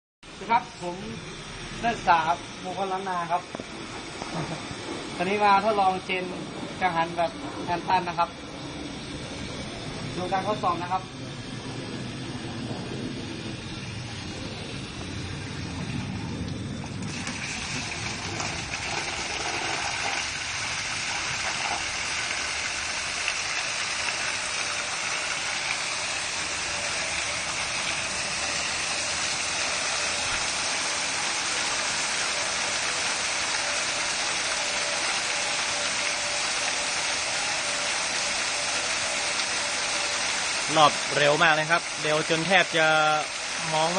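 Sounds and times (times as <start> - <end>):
water jet spraying turbine wheel: 0.2 - 43.9.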